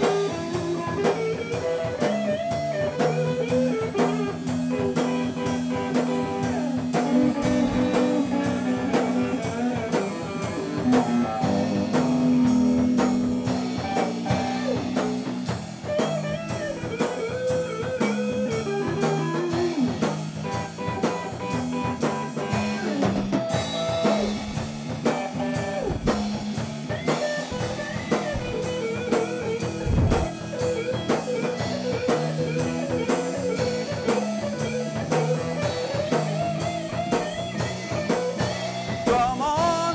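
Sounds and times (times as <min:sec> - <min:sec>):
drum kit beat: 0:00.0 - 0:39.9
electric guitar bending notes: 0:00.0 - 0:39.9.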